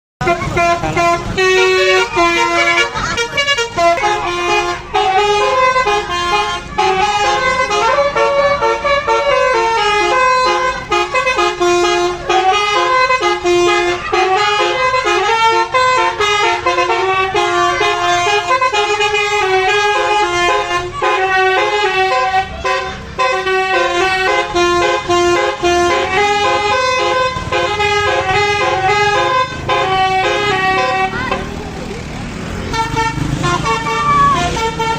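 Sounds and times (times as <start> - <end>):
musical bus air horns: 0.2 - 32.0, 32.6 - 34.9.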